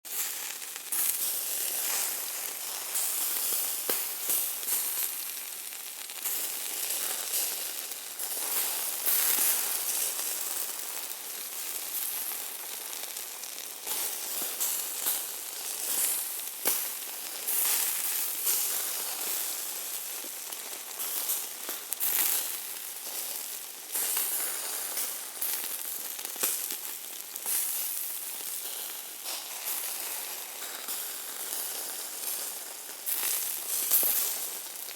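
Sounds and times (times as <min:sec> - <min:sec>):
meat sizzling in hot fat: 0:00.1 - 0:34.9.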